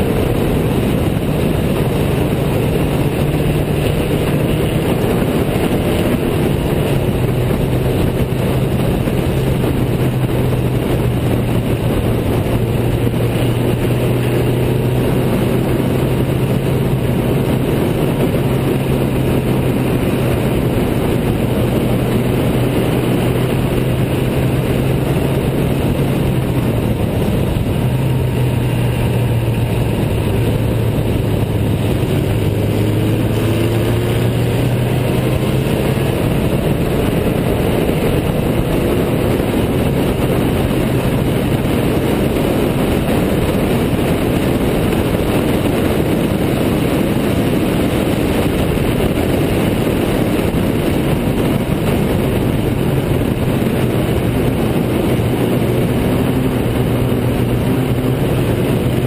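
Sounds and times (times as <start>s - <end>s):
car engine running hard: 0.0s - 59.0s
wind rush on microphone: 0.0s - 59.0s.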